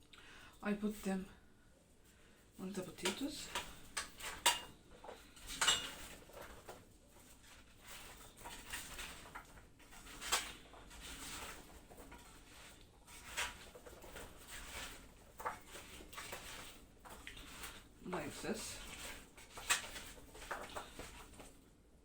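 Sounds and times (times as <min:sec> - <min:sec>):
soft scraping and rustling: 0:00.7 - 0:21.8.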